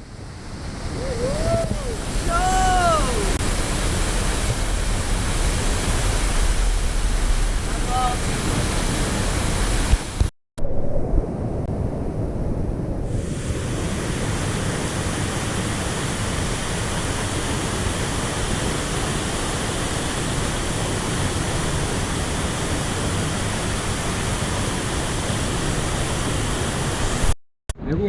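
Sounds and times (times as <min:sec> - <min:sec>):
waterfall rushing into pool: 0:00.1 - 0:10.3, 0:13.1 - 0:27.4.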